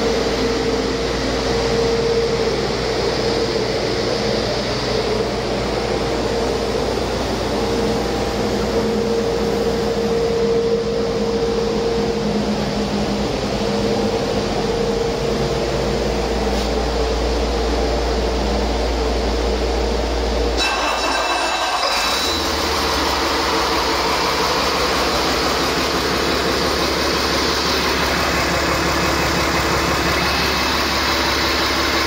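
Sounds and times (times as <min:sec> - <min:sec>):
diesel engine running steadily: 0:00.0 - 0:32.0.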